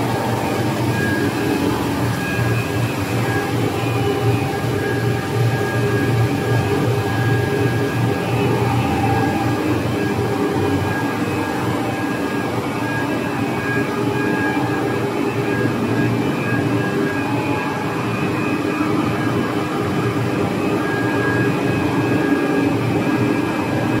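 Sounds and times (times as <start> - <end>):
machine drone and whir: 0.0 - 24.0.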